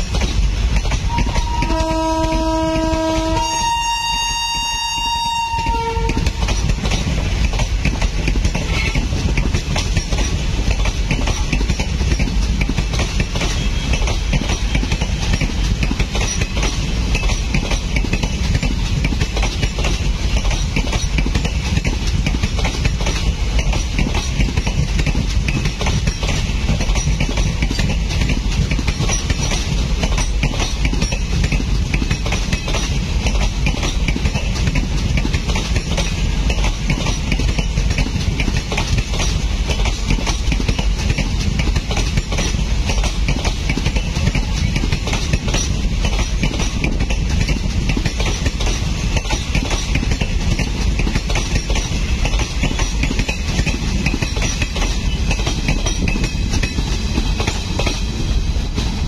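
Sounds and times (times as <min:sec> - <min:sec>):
train wheels rumbling on rails: 0:00.0 - 0:59.0
wheels clattering over rail joints: 0:06.0 - 0:59.0.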